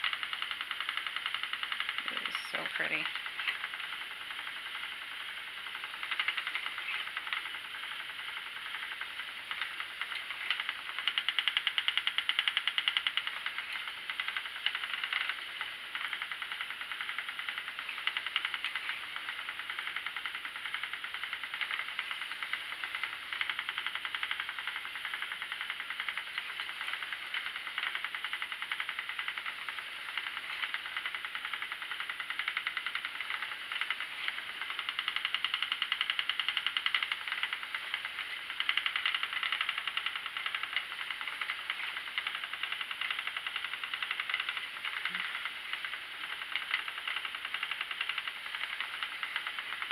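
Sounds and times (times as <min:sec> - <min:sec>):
spinning wheel ticking: 0:00.0 - 0:49.9.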